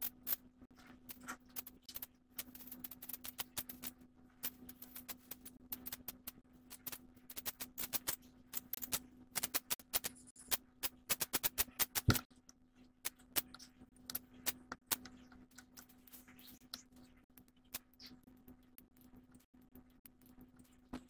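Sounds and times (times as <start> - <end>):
sharp clicks and taps: 0.8 - 21.0.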